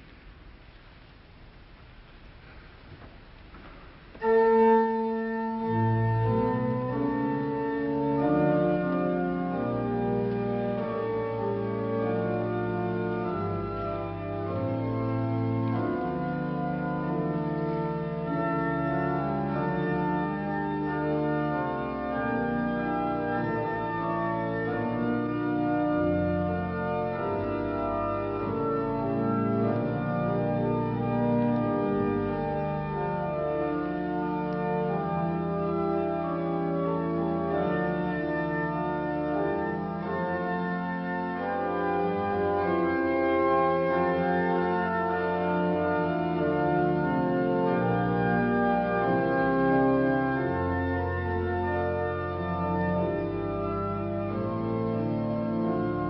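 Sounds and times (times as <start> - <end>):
church organ chords: 2.7 - 56.0.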